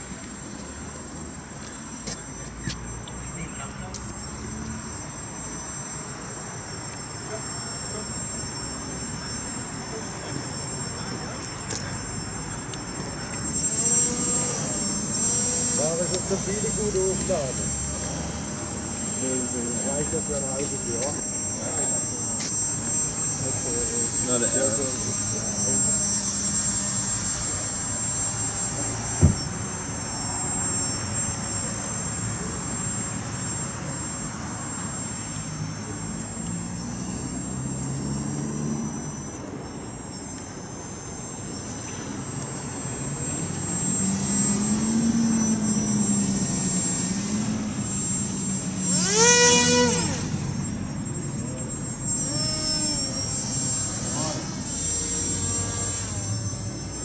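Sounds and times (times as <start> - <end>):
model paramotor buzzing: 0.0 - 57.0.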